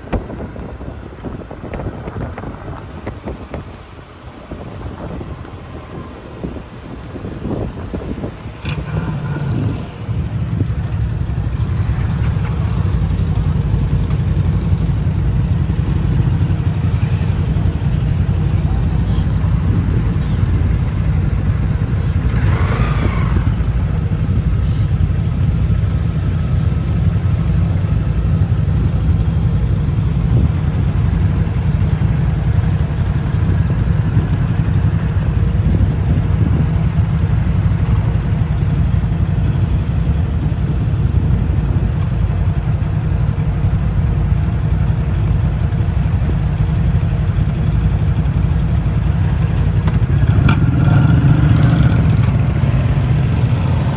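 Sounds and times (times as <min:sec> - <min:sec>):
vehicle rumble from inside: 0:00.0 - 0:53.9.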